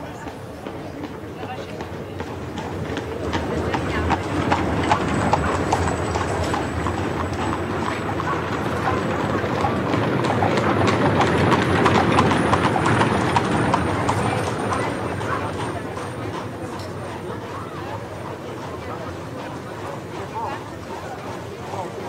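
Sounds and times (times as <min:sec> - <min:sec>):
horse hooves clip-clopping: 0:00.2 - 0:22.0.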